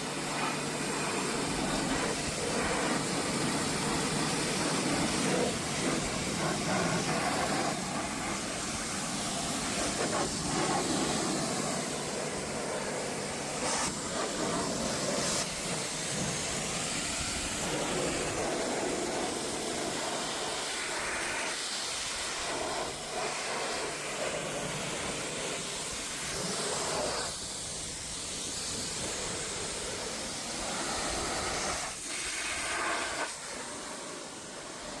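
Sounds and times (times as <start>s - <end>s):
high-pressure water spray hissing: 0.0s - 35.0s.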